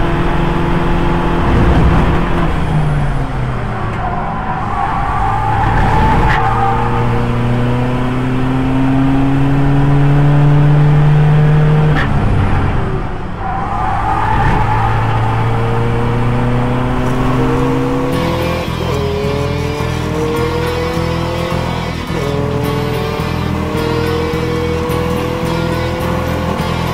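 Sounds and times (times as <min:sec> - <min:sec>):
race car engine accelerating: 0:00.0 - 0:26.9.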